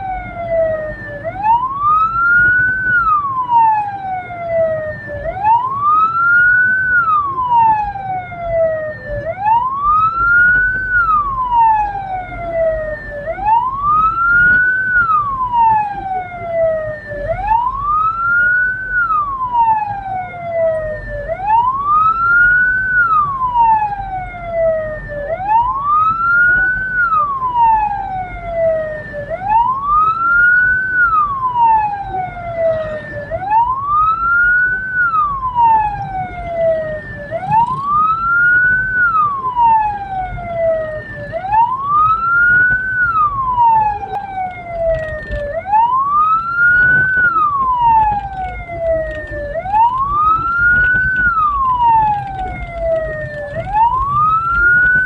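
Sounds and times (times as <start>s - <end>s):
electronic siren wailing: 0.0s - 55.0s.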